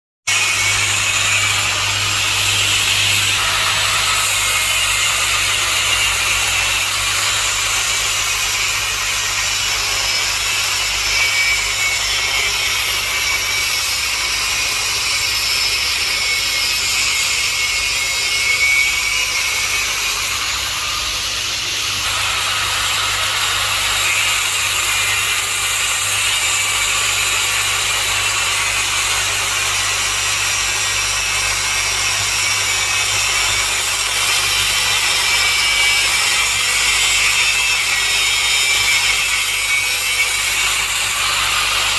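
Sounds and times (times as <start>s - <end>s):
angle grinder cutting metal: 0.3s - 41.9s.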